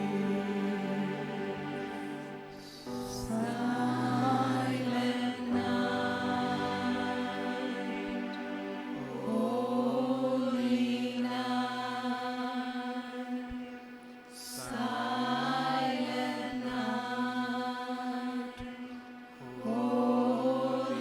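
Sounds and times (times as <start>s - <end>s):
voices singing held notes: 0.0s - 21.0s.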